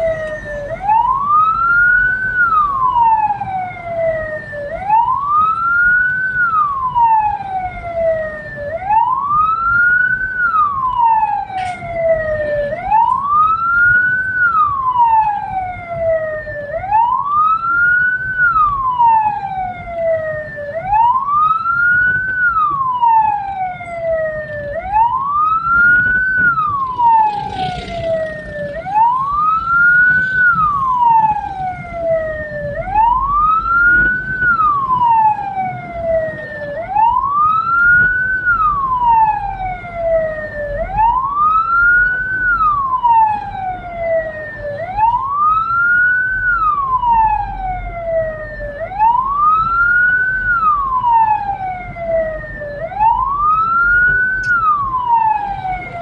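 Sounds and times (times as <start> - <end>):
low rumble of vehicle: 0.0 - 56.0
siren wailing: 0.0 - 56.0.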